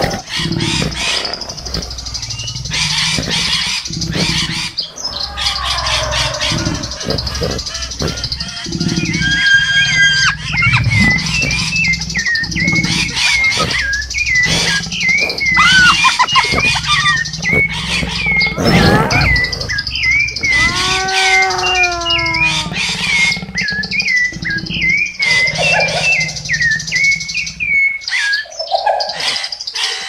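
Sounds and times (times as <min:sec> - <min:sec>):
animal call: 0:00.0 - 0:30.0
birds chirping: 0:00.0 - 0:30.0.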